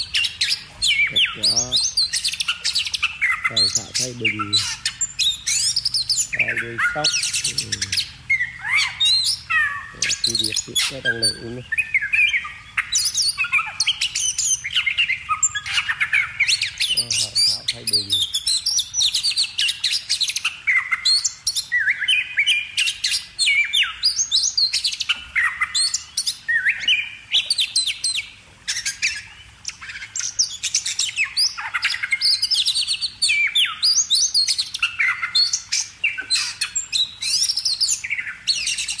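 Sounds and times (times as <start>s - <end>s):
birds chirping and calling: 0.0s - 39.0s.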